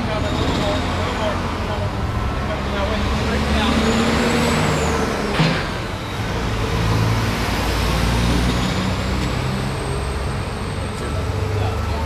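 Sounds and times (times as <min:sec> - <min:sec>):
heavy machinery engine running: 0:00.0 - 0:12.0.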